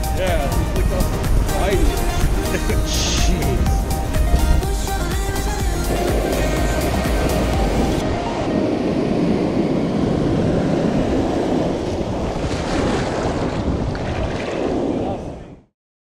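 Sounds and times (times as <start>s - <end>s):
waves breaking: 0.0s - 15.0s
wind noise on microphone: 0.0s - 15.7s.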